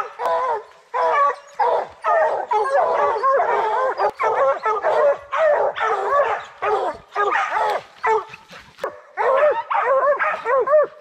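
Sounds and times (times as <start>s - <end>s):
hounds barking and bawling: 0.0s - 11.0s.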